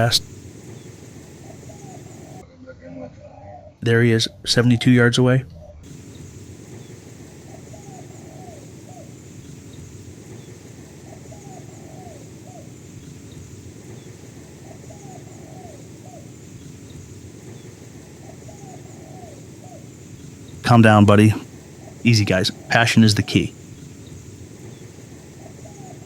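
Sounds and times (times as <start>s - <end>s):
dove cooing: 0.0s - 2.4s, 5.8s - 26.0s
low hiss: 0.0s - 2.4s, 5.8s - 26.0s.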